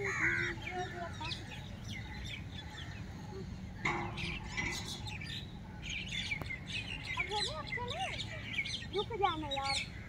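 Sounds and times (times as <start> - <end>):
birds chirping: 0.0 - 10.0
low background hum: 0.0 - 10.0.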